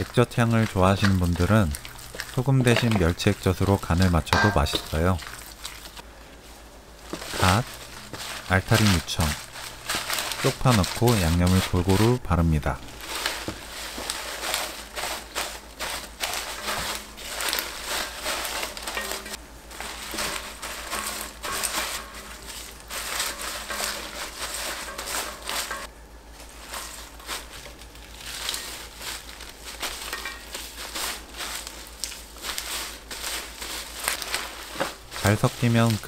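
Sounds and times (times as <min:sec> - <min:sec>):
wet crunching and rustling of leaves: 0:00.0 - 0:36.0.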